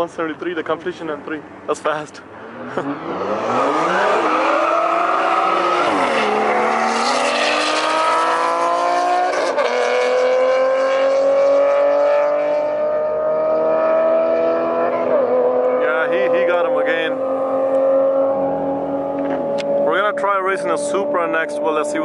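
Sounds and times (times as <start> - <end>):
cars accelerating at full throttle: 2.2 - 22.0.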